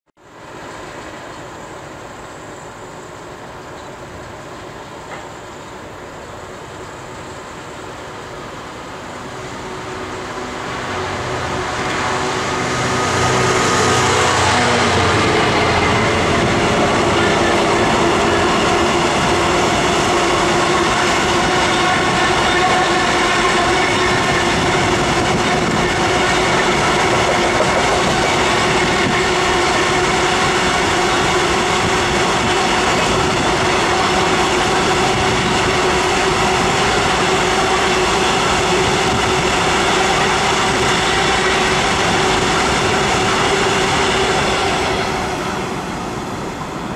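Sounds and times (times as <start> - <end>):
freight train rolling past: 0.2 - 46.9.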